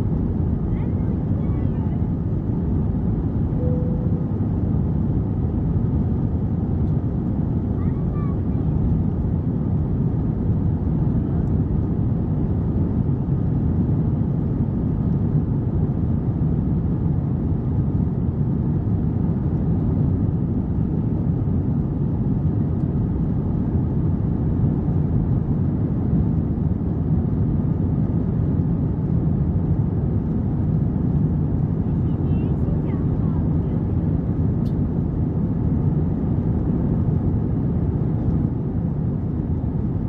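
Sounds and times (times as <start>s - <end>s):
airplane cabin engine noise: 0.0s - 40.0s.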